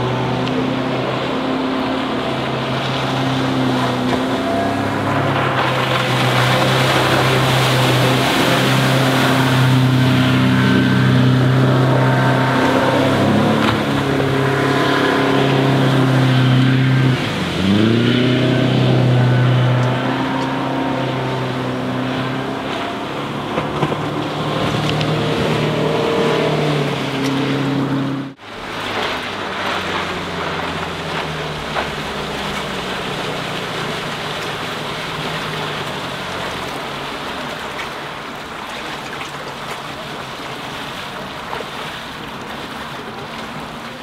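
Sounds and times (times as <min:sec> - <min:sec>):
boat engine running: 0:00.0 - 0:44.0
water rushing: 0:00.0 - 0:44.0.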